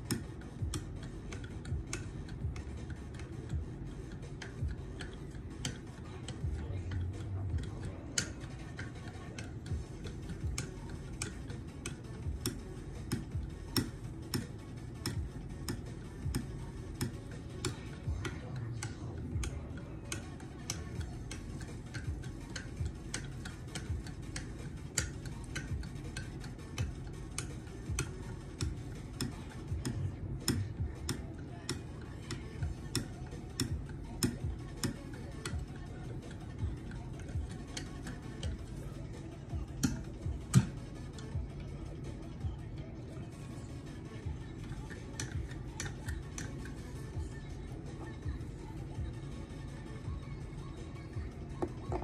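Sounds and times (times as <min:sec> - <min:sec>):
knife sharpener clicks and taps: 0:00.0 - 0:41.7, 0:44.6 - 0:46.9.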